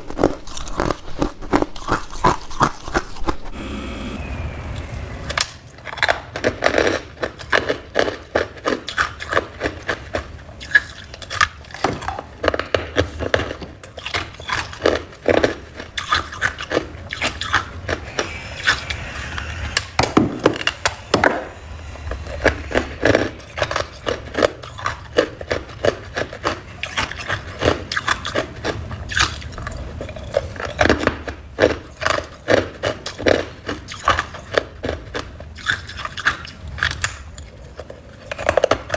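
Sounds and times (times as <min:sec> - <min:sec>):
frost being chewed: 0:00.0 - 0:03.6, 0:04.8 - 0:38.9.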